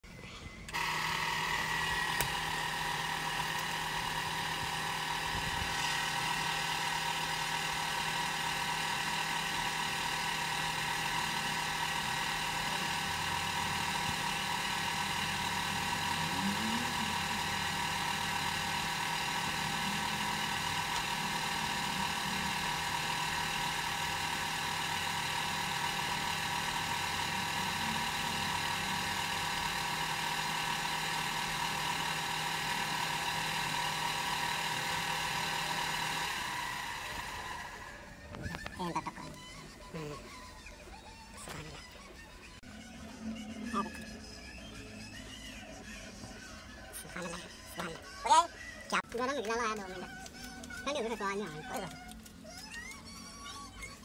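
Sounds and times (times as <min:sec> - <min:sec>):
potter's wheel motor humming: 0:00.5 - 0:54.0.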